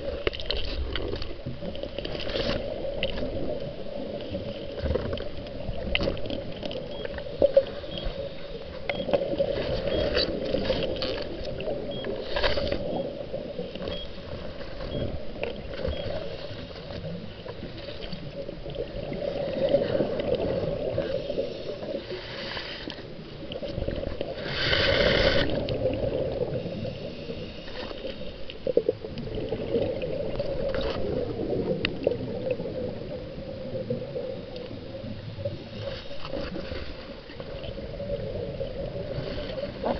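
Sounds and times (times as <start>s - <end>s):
muffled underwater water hum: 0.0s - 39.9s
underwater water rush: 0.0s - 39.9s.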